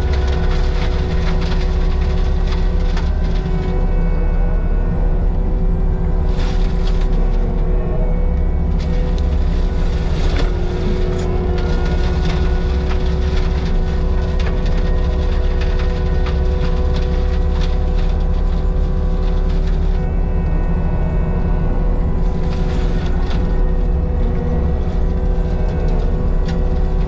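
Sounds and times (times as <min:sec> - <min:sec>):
diesel machine rumbling: 0:00.0 - 0:27.0.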